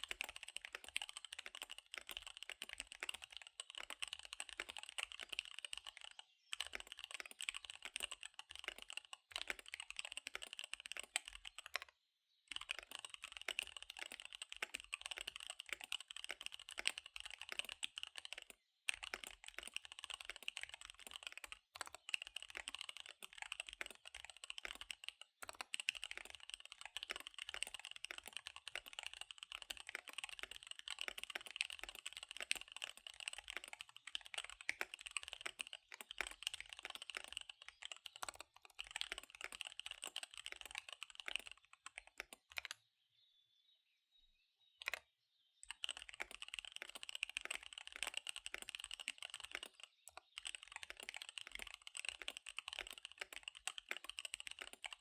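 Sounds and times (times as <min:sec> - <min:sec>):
mechanical keyboard typing: 0:00.0 - 0:42.8, 0:44.8 - 0:45.0, 0:45.6 - 0:55.0.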